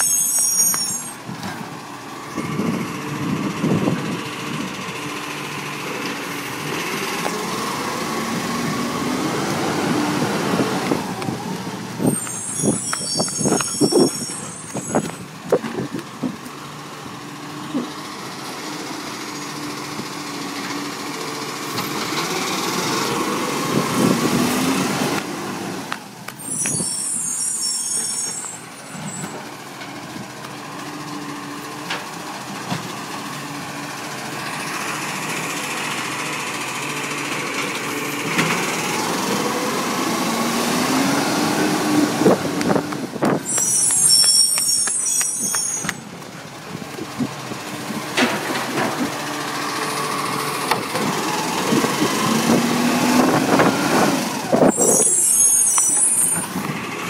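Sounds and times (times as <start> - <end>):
garbage truck engine revving: 1.2 - 12.8, 13.6 - 26.9, 28.9 - 45.4, 46.0 - 57.0.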